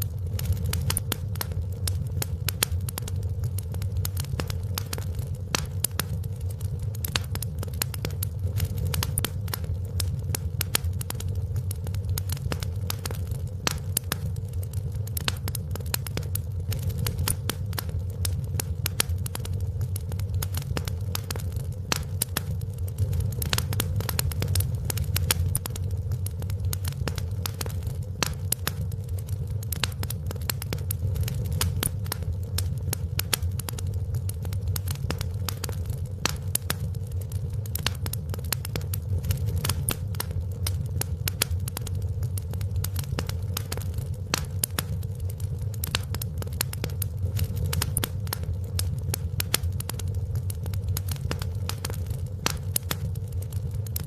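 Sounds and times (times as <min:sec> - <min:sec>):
fire low rumble: 0:00.0 - 0:54.0
wood fire crackling: 0:00.0 - 0:54.0.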